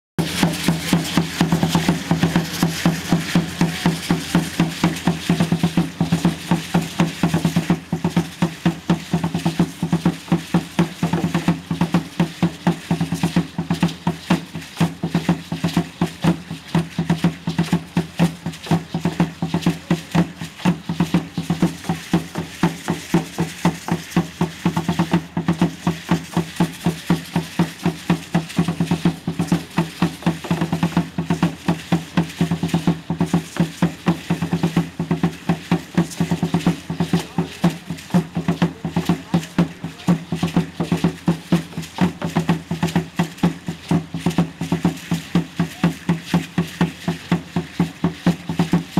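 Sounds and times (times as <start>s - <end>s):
ankle rattles shaking: 0.2s - 48.9s
drums beating steady pulse: 0.2s - 48.9s.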